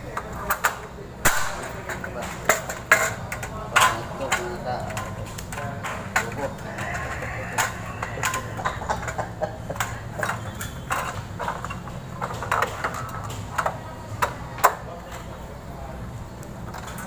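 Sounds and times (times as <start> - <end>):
sheet metal clicks and knocks: 0.1 - 15.3.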